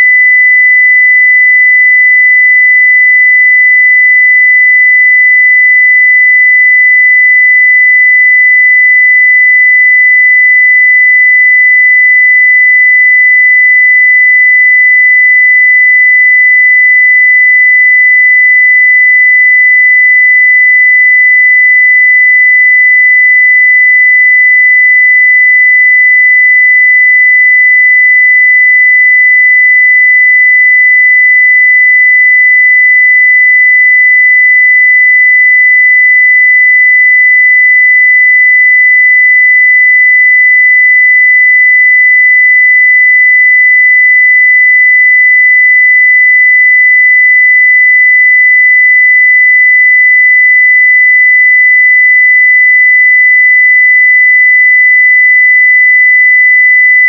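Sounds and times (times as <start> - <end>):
sine wave test tone: 0.0 - 57.0.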